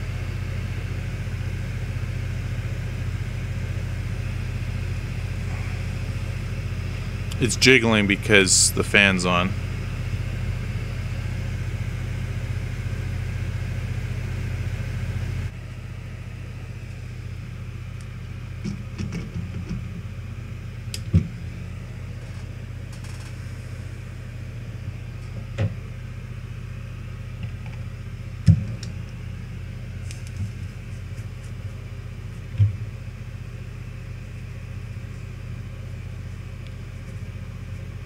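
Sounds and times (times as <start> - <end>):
fan whirring: 0.0 - 38.0
low electrical hum: 0.0 - 38.0.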